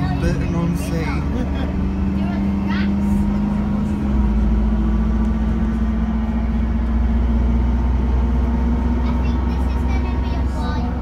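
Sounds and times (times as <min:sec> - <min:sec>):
engine hum: 0:00.0 - 0:11.0
vehicle road rumble: 0:00.0 - 0:11.0.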